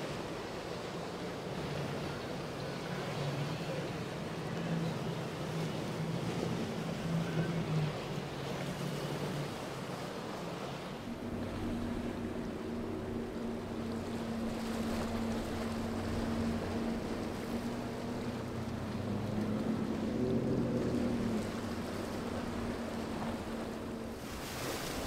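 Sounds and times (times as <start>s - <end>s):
boat engine drone: 0.0s - 25.0s
water rushing and slapping: 0.0s - 25.0s.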